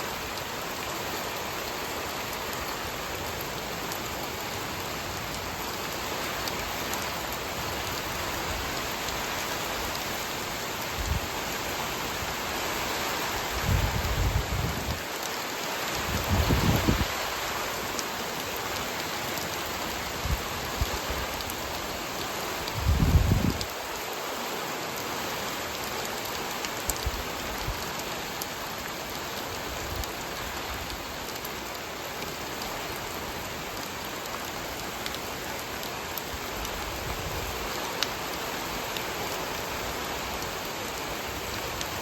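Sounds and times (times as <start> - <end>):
rain falling on a field: 0.0 - 42.0.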